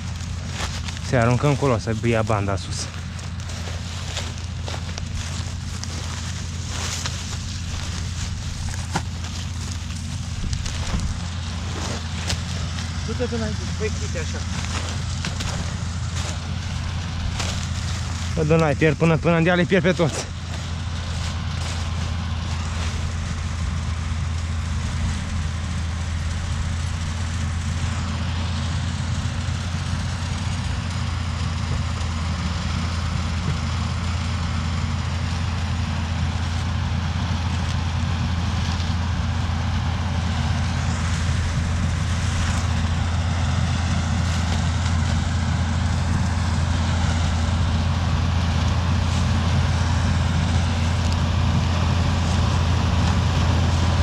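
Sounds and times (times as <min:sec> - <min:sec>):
tractor engine droning: 0:00.0 - 0:54.0.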